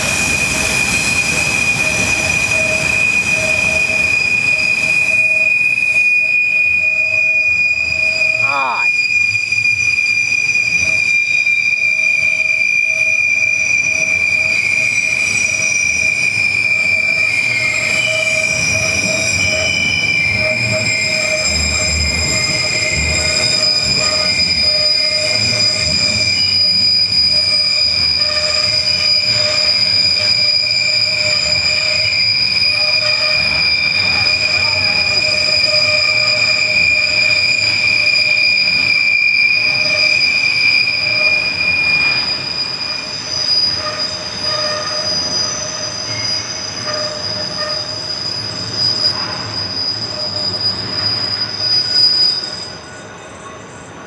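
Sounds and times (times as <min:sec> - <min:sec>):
train rolling noise: 0:00.0 - 0:54.0
train wheels squealing on rails: 0:00.0 - 0:54.0.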